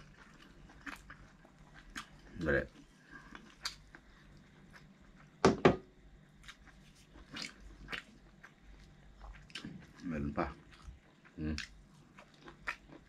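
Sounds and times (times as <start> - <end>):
person chewing: 0.0 - 5.4, 6.4 - 13.0.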